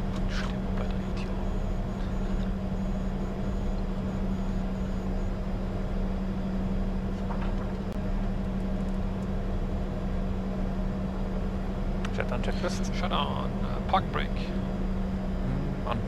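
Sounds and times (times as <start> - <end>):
jet engines idling drone: 0.0 - 16.0.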